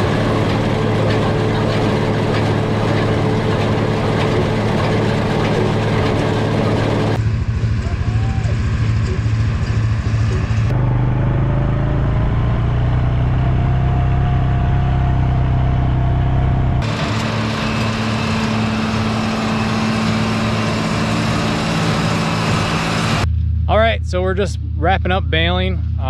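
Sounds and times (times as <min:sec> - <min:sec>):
tractor engines running: 0:00.0 - 0:26.0.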